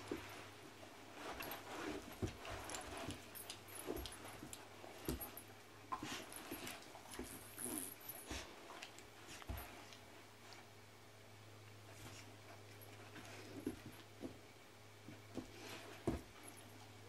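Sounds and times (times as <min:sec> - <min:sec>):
dogs scuffling and mouthing: 0:00.0 - 0:10.7, 0:11.8 - 0:14.4, 0:15.0 - 0:17.0.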